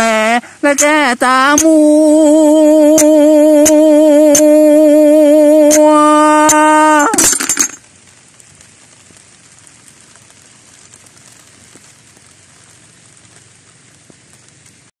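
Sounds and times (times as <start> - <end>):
faint steady hiss: 0.0 - 14.9
light scattered crackles: 0.0 - 14.9.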